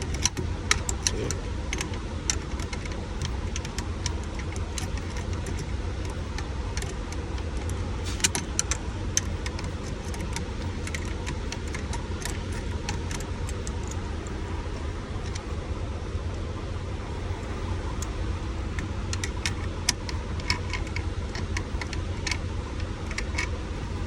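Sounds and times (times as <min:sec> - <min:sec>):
clicks and rattles of parts: 0:00.0 - 0:15.6, 0:17.3 - 0:24.0
low engine rumble: 0:00.0 - 0:24.0.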